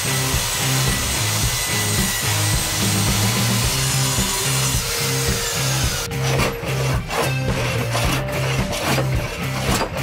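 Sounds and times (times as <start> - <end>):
background music: 0.0 - 10.0
mitre saw cutting wood: 0.0 - 10.0.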